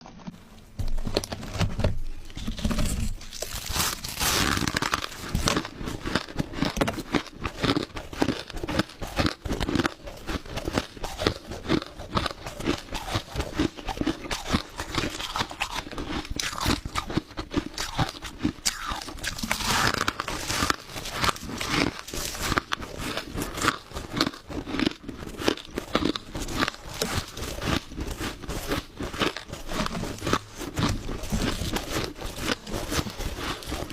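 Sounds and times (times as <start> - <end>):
crushed ice being chewed: 0.0 - 33.9.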